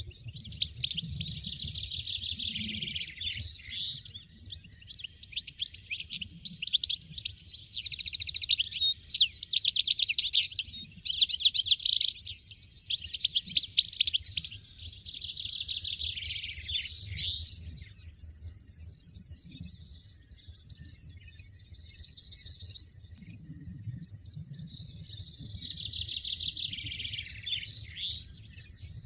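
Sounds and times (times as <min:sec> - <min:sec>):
goldfinch twittering: 0:00.0 - 0:20.2, 0:24.9 - 0:29.0.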